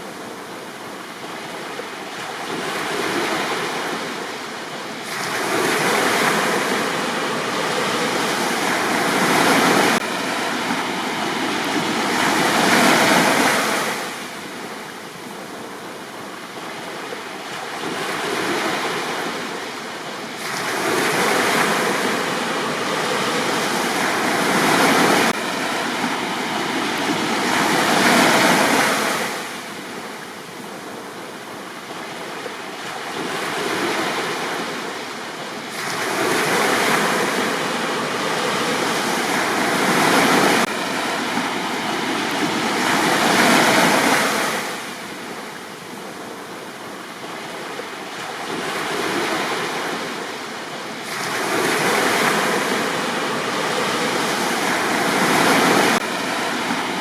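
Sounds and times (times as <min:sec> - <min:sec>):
sea waves breaking on a beach: 0:00.0 - 0:57.0.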